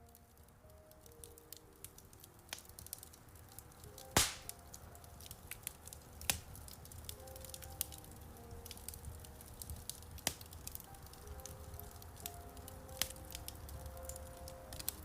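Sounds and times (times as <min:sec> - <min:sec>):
fire popping: 0:00.0 - 0:15.0
soft piano notes: 0:00.0 - 0:15.0
wood fire crackling: 0:00.0 - 0:15.0.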